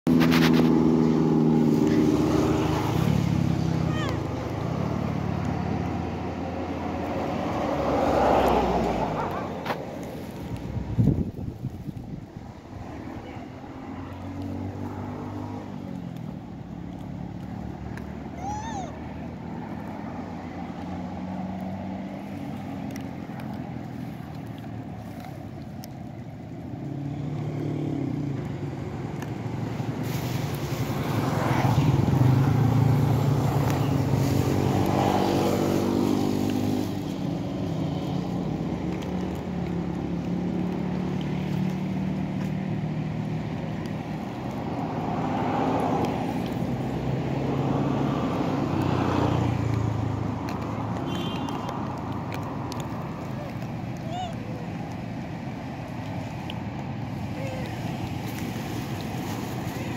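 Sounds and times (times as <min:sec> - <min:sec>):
traffic engine hum: 0:00.0 - 0:59.9.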